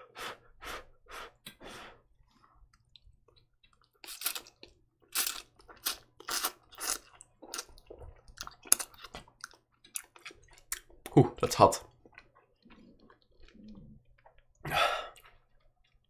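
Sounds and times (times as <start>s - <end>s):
person chewing noodles: 0.2s - 16.0s.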